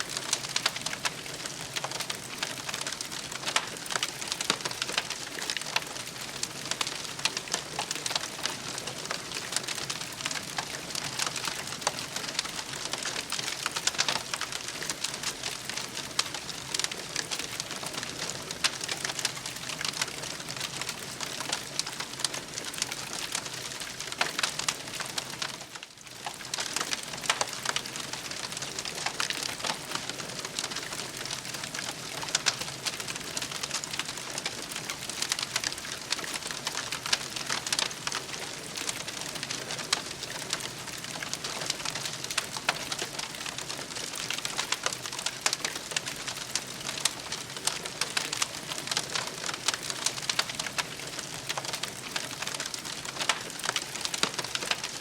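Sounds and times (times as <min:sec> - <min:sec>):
campfire crackling and hissing: 0:00.0 - 0:55.0.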